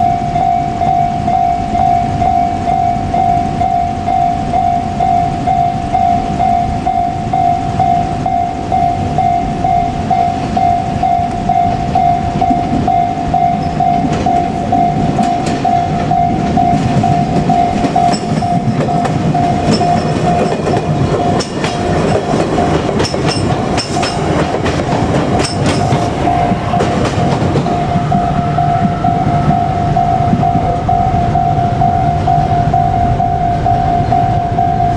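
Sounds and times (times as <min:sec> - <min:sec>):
level-crossing warning bell: 0:00.0 - 0:34.9
train wheels clattering: 0:00.0 - 0:34.9.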